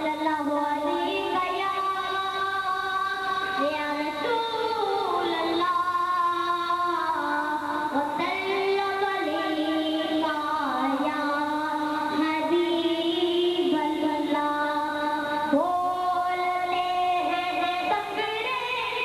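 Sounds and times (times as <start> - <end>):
boy singing into microphone: 0.0 - 19.0.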